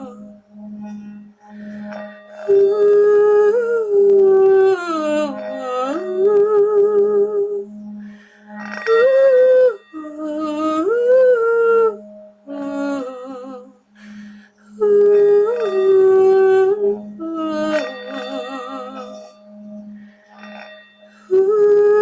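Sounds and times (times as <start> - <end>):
woman singing wordless melody: 0.0 - 22.0.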